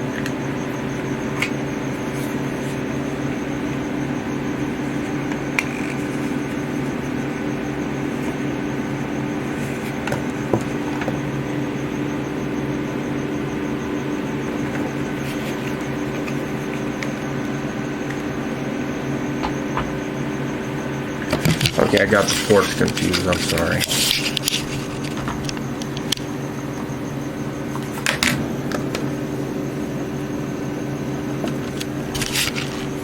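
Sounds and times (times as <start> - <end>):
computer fans humming: 0.0 - 33.0.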